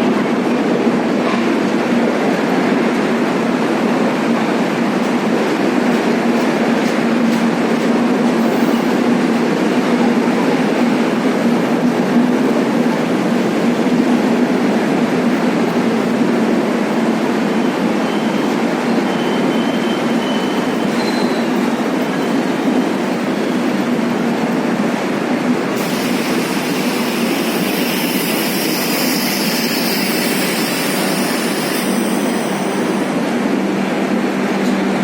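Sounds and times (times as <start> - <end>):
passenger train passing: 0.0 - 35.0.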